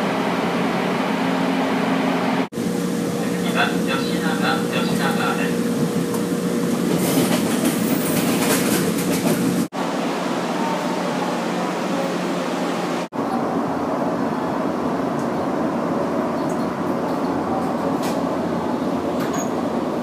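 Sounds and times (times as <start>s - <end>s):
diesel railcar running hum: 0.0s - 20.0s.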